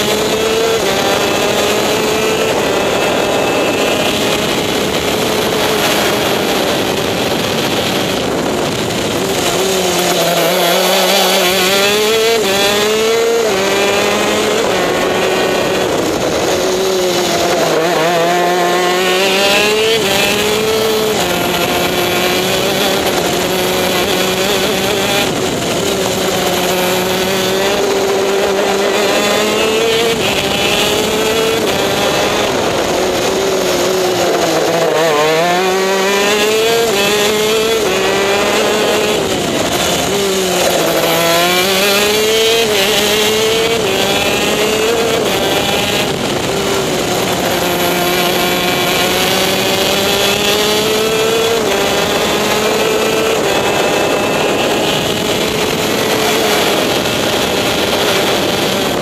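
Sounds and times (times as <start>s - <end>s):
kart engine revving high: 0.0s - 59.0s.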